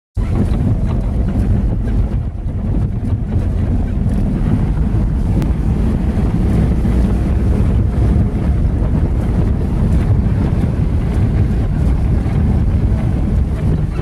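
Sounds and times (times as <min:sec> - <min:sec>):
car driving on dirt road: 0:00.2 - 0:14.0.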